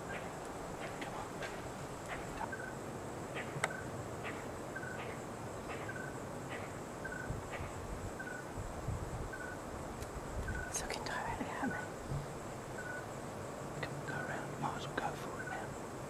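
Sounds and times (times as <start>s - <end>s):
faint steady high hum: 0.0s - 16.0s.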